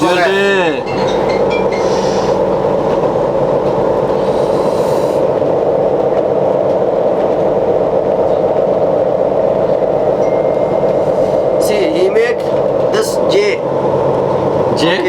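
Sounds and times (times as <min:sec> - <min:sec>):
boat engines droning: 0:00.0 - 0:05.4, 0:08.3 - 0:15.0.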